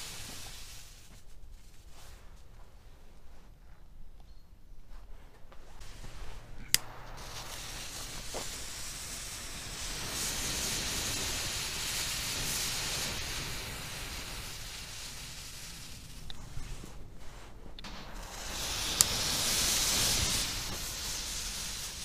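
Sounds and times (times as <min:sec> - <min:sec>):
smoke bomb hissing: 0:00.0 - 0:02.1, 0:05.8 - 0:22.0.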